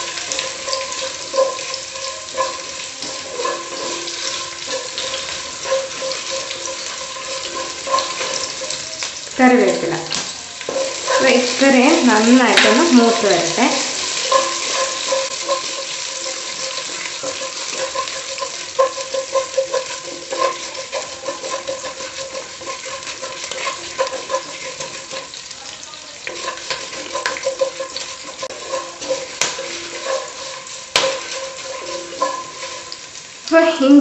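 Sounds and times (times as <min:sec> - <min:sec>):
spatula scraping and tapping pan: 0:00.0 - 0:33.5
spices sizzling in hot oil: 0:00.0 - 0:34.0.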